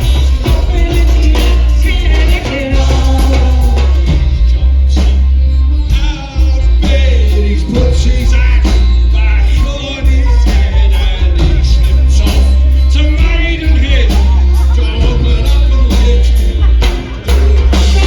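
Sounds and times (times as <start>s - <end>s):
booming bass: 0.0s - 18.0s
live band playing: 0.0s - 18.0s
person singing: 0.0s - 18.0s.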